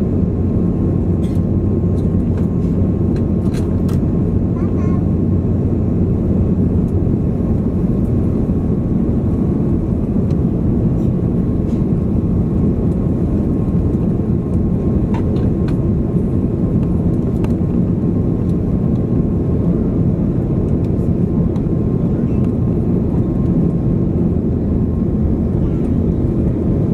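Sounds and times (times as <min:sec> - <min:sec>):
aircraft cabin engine rumble: 0:00.0 - 0:26.9.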